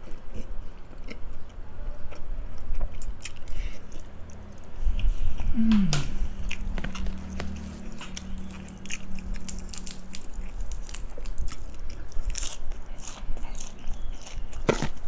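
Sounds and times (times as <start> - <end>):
crunchy food chewing: 0.0 - 15.0
low steady hum: 0.0 - 15.0.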